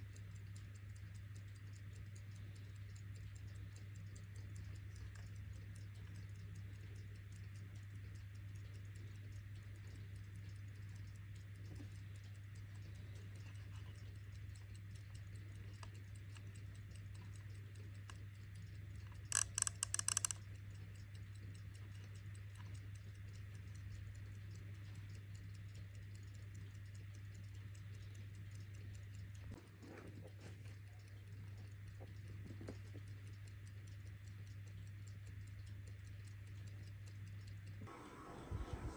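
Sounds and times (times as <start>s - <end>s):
alarm clock ticking: 0.0s - 37.9s
low steady hum: 0.0s - 38.9s.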